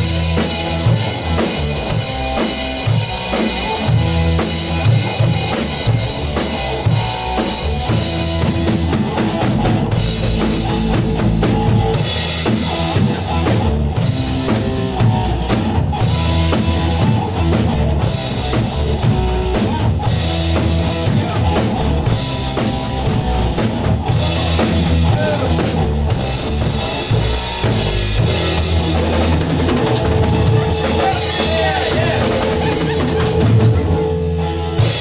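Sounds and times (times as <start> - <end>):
drum kits playing a beat: 0.0 - 35.0
low bass line: 0.0 - 35.0.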